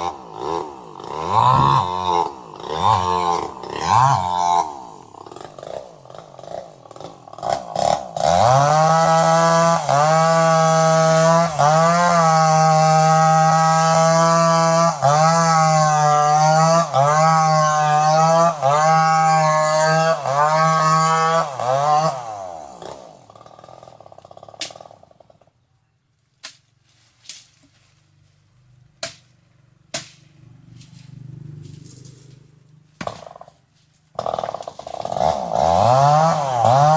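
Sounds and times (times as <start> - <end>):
chainsaw engine revving: 0.0 - 25.5, 30.3 - 36.9.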